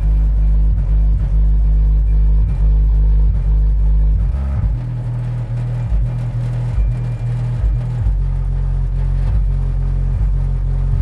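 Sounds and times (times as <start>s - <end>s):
bass-heavy music from subwoofer: 0.0s - 11.0s.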